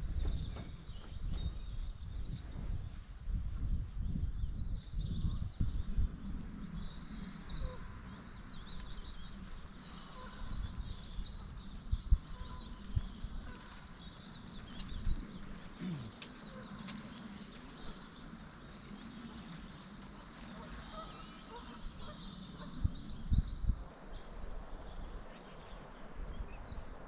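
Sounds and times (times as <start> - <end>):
small birds chirping and singing: 0.0 - 27.0
wind buffeting microphone: 0.0 - 27.0.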